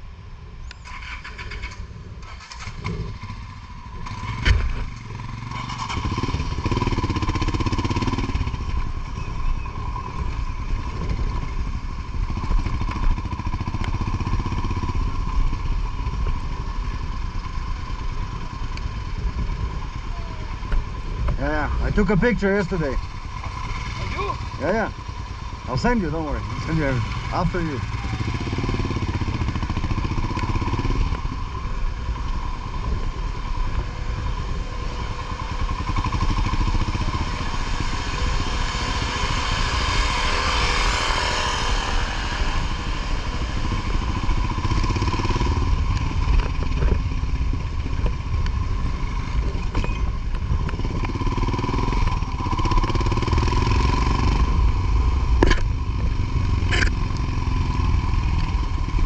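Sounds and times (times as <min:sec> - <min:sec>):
motorcycle engine rumbling: 0:00.0 - 0:59.0.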